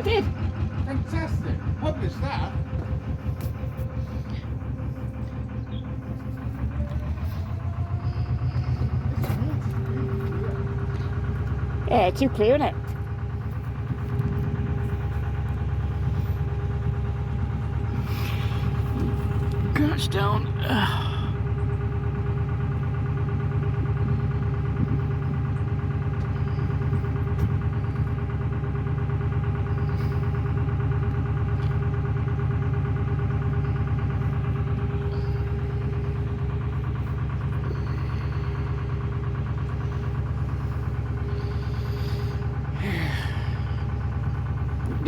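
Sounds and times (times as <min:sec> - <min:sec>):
diesel engine throbbing: 0:00.0 - 0:45.0
engine whine: 0:00.0 - 0:45.0.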